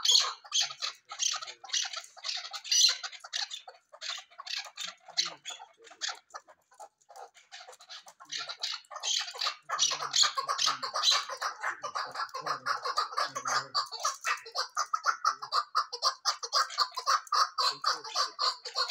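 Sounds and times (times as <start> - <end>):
partridge chuck calls: 0.0 - 18.9.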